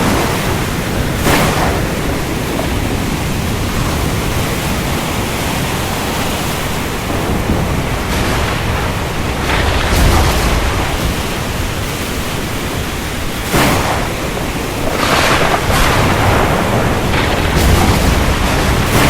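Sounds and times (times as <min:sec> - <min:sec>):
heavy surf: 0:00.0 - 0:19.0
wind: 0:00.0 - 0:19.0.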